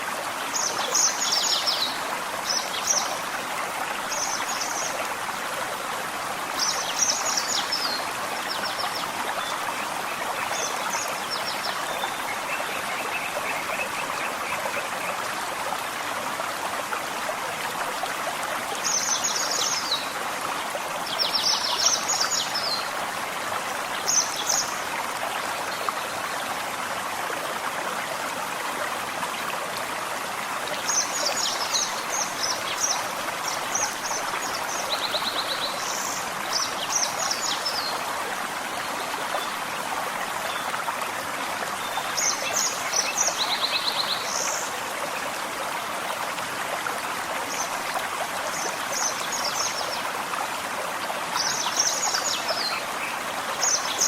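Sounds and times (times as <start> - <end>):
stream flowing and trickling: 0.0 - 54.0.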